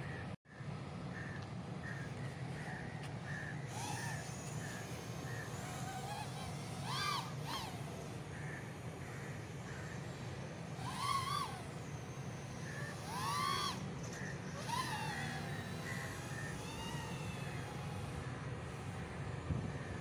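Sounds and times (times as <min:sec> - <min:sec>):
quadcopter motors whining: 0:01.9 - 0:20.0.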